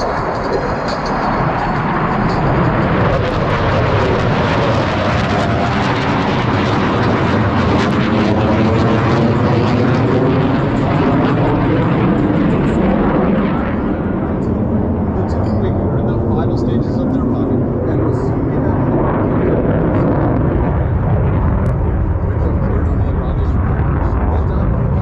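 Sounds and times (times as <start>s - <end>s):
jet engines roaring past: 0.0s - 25.0s.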